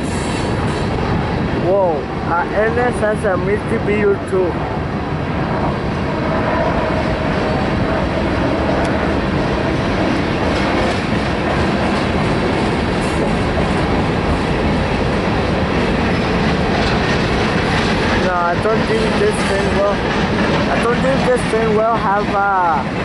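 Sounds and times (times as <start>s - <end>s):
freight train wheels on rails: 0.0s - 23.0s.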